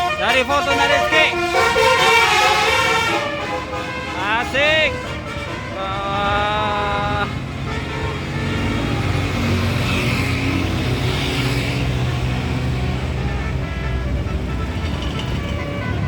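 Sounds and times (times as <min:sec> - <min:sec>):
musical bus horn: 0:00.0 - 0:11.0, 0:11.6 - 0:16.0
heavy bus engine: 0:00.0 - 0:16.0.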